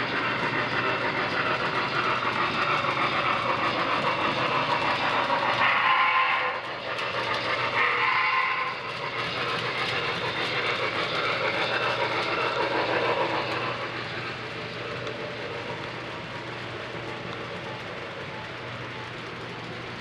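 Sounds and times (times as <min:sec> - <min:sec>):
model train wheels rumbling on rails: 0:00.0 - 0:20.0.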